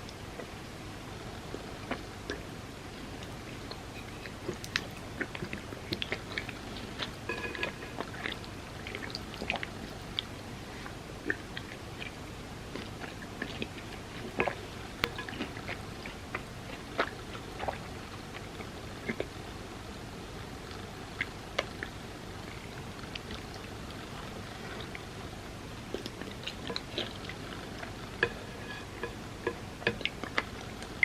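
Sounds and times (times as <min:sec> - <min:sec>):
close chewing and wet mouth sounds: 0:00.0 - 0:31.0.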